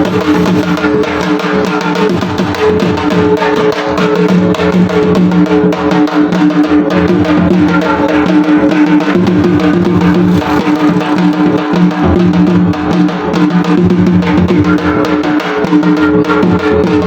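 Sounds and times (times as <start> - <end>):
rapid dhol drumming: 0.0 - 17.0.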